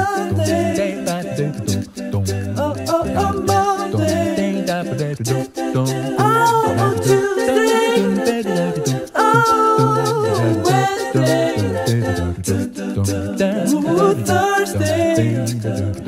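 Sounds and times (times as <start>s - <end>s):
layered voices singing: 0.0s - 16.0s
steady beat with low bass: 0.0s - 16.0s.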